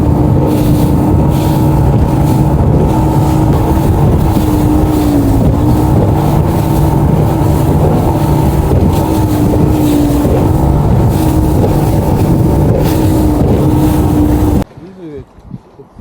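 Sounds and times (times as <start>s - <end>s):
boat motor running: 0.0s - 14.7s
wind on microphone: 0.0s - 16.0s.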